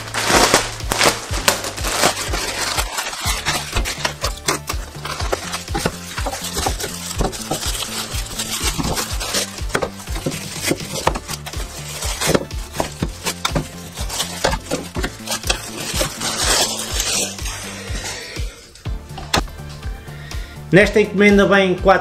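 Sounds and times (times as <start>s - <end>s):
plastic bags crinkling: 0.0s - 18.8s
background music with bass line: 0.0s - 22.0s.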